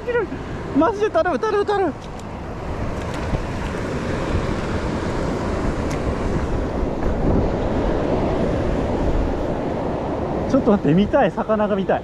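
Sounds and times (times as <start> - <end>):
river water rushing: 0.0 - 12.0
wind buffeting microphone: 0.0 - 12.0.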